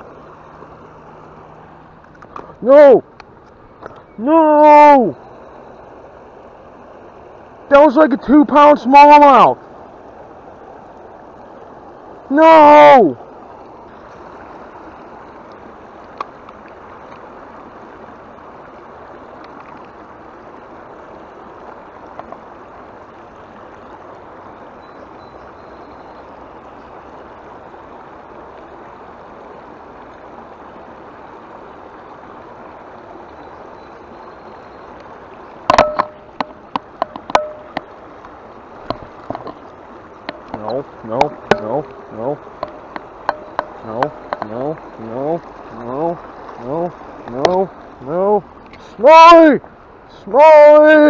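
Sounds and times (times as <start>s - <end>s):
river water running: 0.0s - 51.0s.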